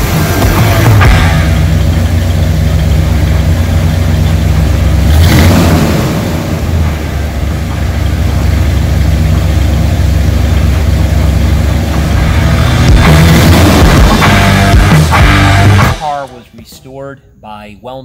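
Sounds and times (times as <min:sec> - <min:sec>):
car engine idling and revving: 0:00.0 - 0:16.2.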